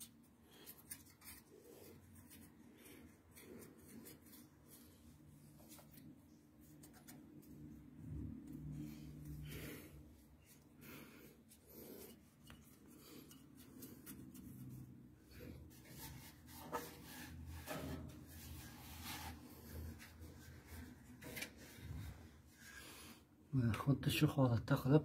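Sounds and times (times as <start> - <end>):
rubbing and handling noise: 0.0 - 23.2.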